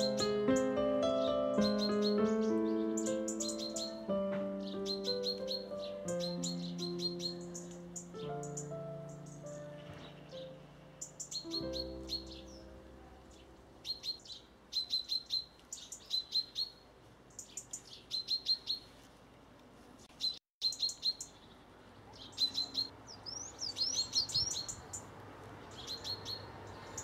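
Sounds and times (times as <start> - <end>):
birds chirping: 0.0 - 18.9, 20.2 - 27.0.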